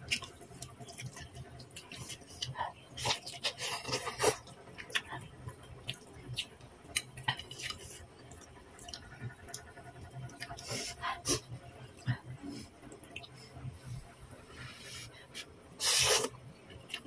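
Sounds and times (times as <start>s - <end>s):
person chewing noodles: 0.0s - 14.1s.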